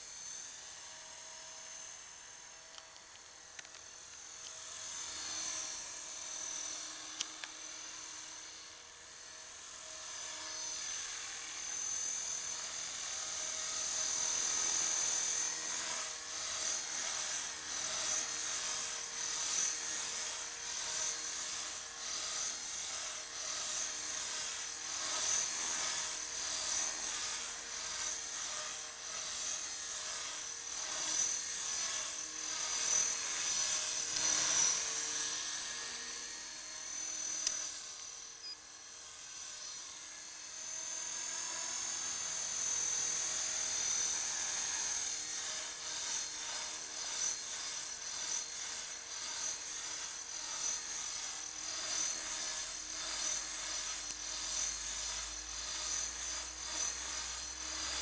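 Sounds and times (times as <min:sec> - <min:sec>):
rc helicopter motor whine: 0:00.0 - 0:58.0
helicopter rotor noise: 0:03.6 - 0:58.0.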